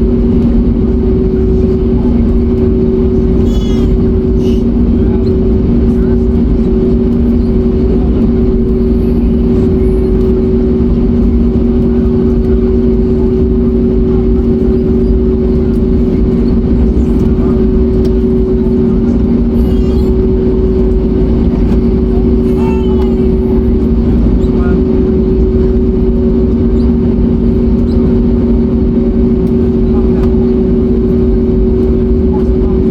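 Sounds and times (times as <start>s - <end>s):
airplane cabin engine drone: 0.0s - 32.9s.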